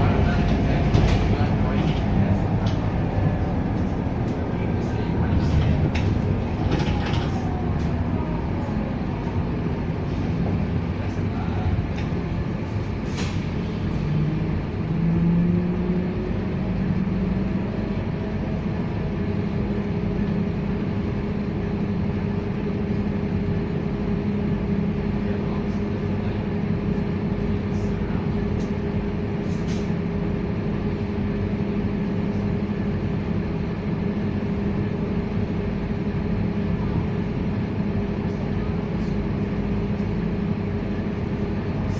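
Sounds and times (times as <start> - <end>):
bus diesel engine running: 0.0 - 41.9.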